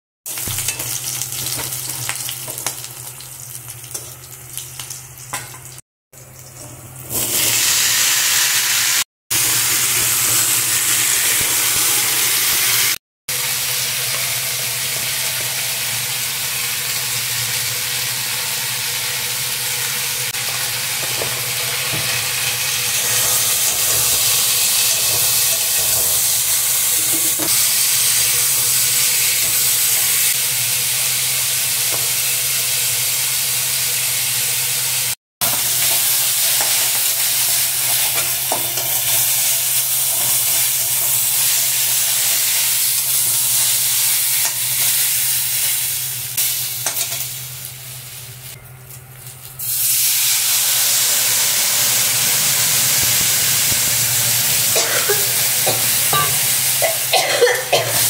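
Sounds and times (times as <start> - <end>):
steady sizzle of frying: 0.2 - 58.0
chillies crackling in hot oil: 0.3 - 58.0.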